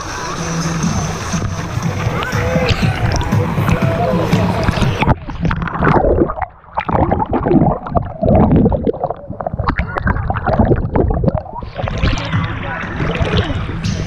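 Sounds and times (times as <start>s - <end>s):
underwater gurgling and bubbling: 0.0s - 14.0s
bubbles popping: 1.8s - 14.0s.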